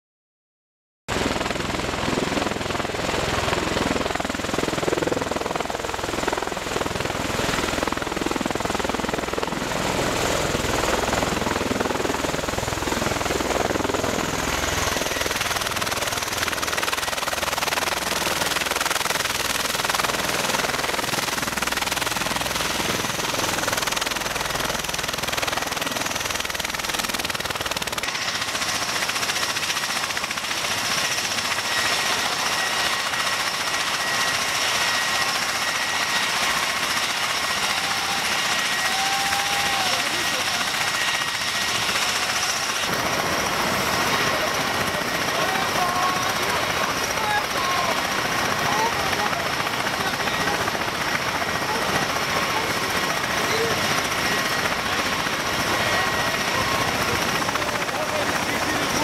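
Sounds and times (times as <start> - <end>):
tiltrotor aircraft rotor and turbine: 1.1 - 59.0.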